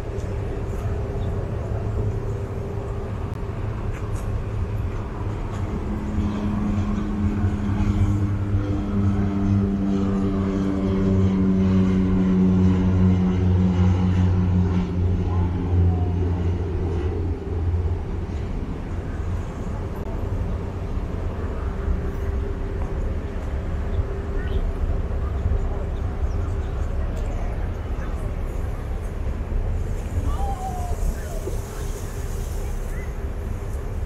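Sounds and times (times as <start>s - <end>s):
passing engine droning hum: 0.0s - 34.0s
street background noise: 0.0s - 34.0s.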